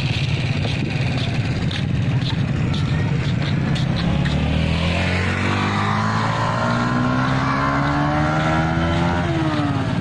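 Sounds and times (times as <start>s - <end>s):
motorcycle engine speeding up: 0.0s - 10.0s.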